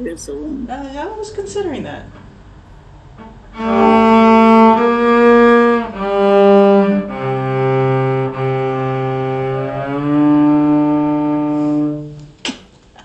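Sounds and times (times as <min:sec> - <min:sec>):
cello bowed notes: 0:01.3 - 0:12.3.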